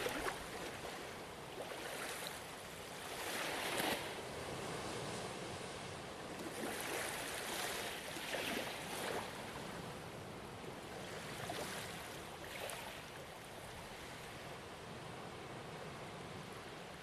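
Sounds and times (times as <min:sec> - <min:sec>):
ocean waves washing onto shore: 0:00.0 - 0:17.0.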